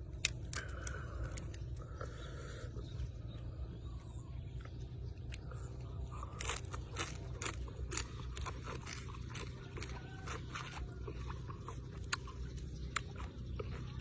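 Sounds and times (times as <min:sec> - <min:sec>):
low hum: 0:00.0 - 0:14.0
person chewing with crunching: 0:00.0 - 0:14.0.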